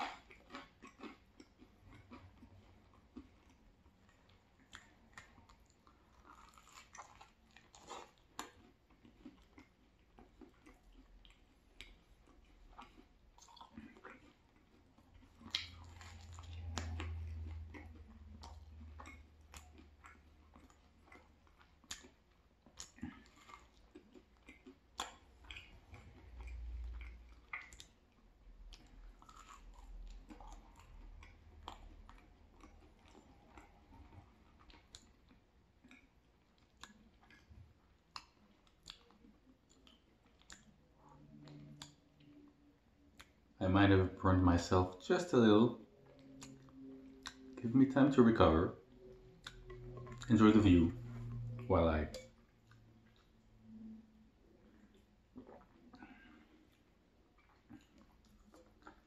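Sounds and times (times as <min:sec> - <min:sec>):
chewing crispy pizza: 0:00.0 - 0:59.0.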